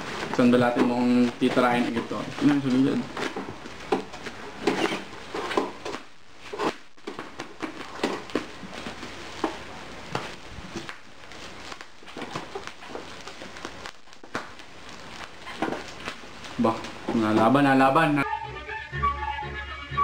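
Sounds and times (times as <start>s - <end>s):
bubble wrap crinkling: 0.0s - 18.2s.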